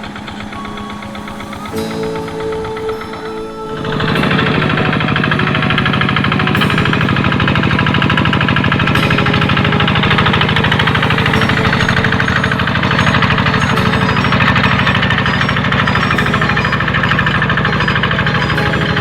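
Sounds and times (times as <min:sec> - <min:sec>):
tractor engine knocking: 0:00.0 - 0:19.0.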